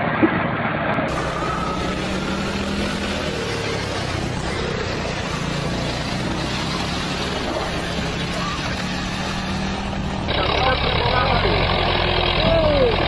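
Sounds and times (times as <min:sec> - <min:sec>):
vehicle engine running: 0:01.0 - 0:13.0.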